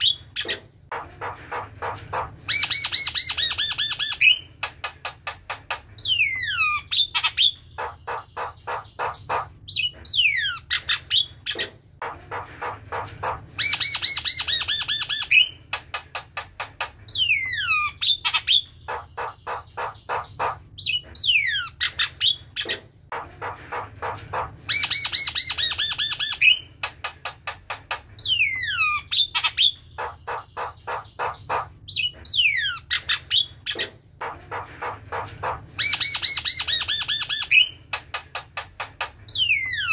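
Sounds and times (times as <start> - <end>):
bird whistling and chattering: 0.0 - 4.6, 5.5 - 15.6, 16.6 - 26.8, 27.8 - 37.9, 39.2 - 39.9.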